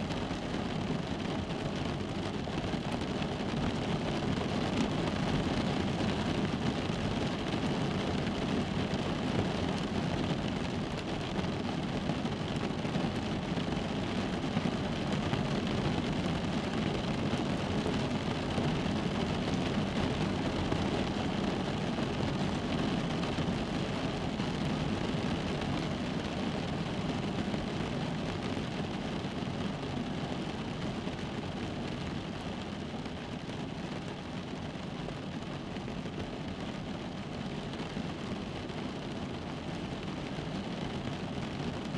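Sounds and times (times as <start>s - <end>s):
rain on car roof: 0.0s - 41.9s.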